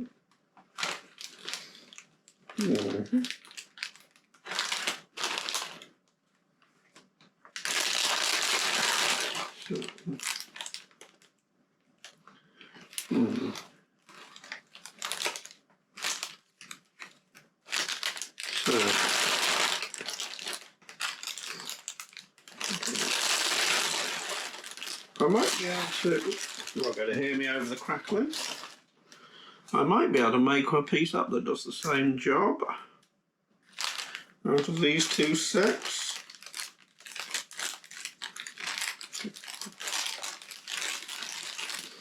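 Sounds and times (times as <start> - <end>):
plastic bags crinkling: 0.7 - 6.0, 7.0 - 11.4, 12.8 - 28.9, 33.6 - 42.0.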